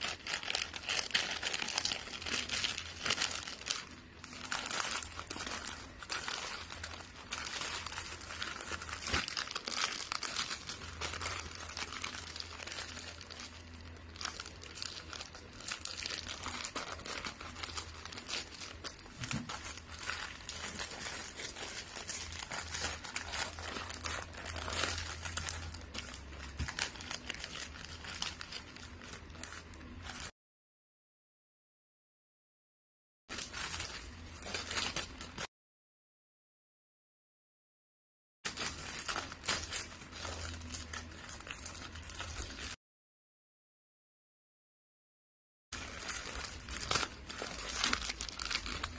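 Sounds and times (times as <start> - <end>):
wrapping paper crinkling: 0.0 - 30.3, 33.3 - 35.5, 38.5 - 42.8, 45.8 - 48.9.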